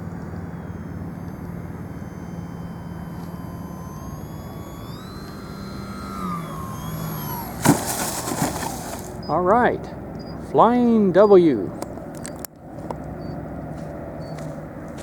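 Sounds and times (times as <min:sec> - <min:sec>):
model airplane motor whining: 0:00.0 - 0:14.8.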